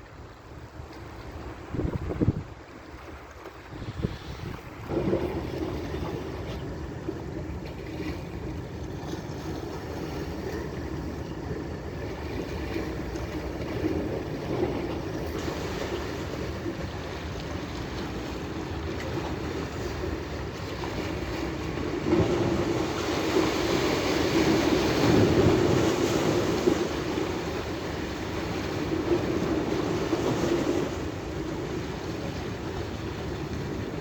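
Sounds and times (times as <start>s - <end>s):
sea waves: 0.0s - 34.0s
wind: 0.0s - 34.0s.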